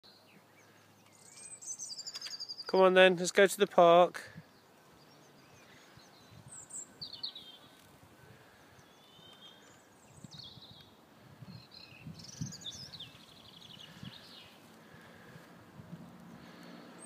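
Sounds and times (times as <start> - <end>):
small birds chirping: 0.1 - 2.9, 4.4 - 17.0.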